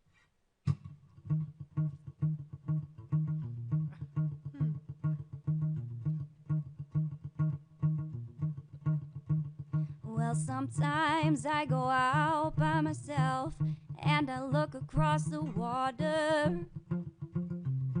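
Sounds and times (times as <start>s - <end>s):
plucked guitar: 0.6s - 18.0s
bass guitar: 0.7s - 18.0s.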